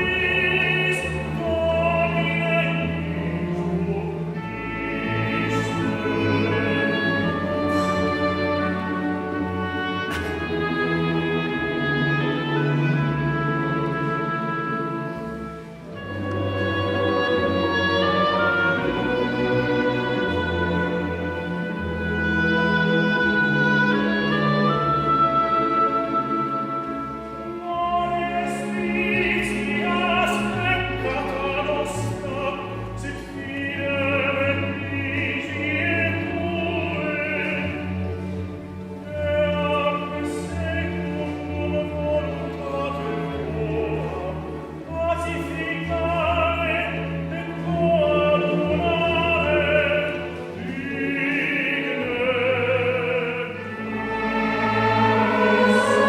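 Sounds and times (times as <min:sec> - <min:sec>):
classical singing with vibrato: 0:00.0 - 0:56.0
sustained orchestral strings: 0:00.0 - 0:56.0.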